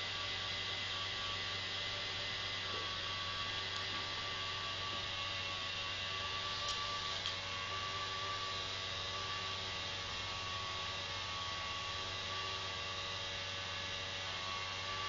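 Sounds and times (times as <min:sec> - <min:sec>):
model aircraft electric motors whirring: 0:00.0 - 0:15.0.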